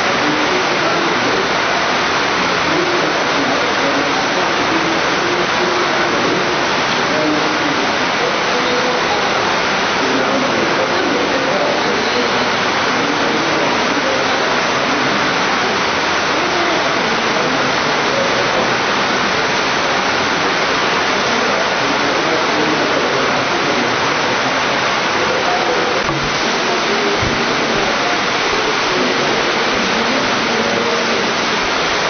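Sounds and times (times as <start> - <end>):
loud steady hiss: 0.0 - 32.0
murmur of voices: 0.0 - 32.0.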